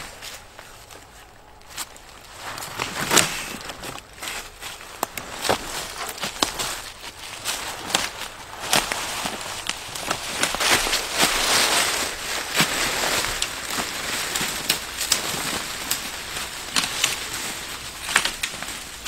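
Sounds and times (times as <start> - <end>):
carcass dragged through dry leaves: 0.0 - 19.0
footsteps: 0.0 - 19.0
twigs crackling: 0.0 - 19.0.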